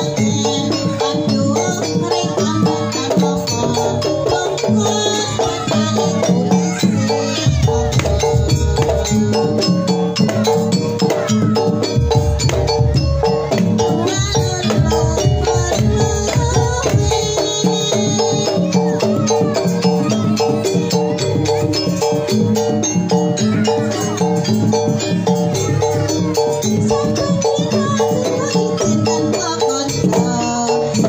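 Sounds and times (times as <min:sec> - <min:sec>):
drums: 0:00.0 - 0:31.0
metallic gamelan melody: 0:00.0 - 0:31.0.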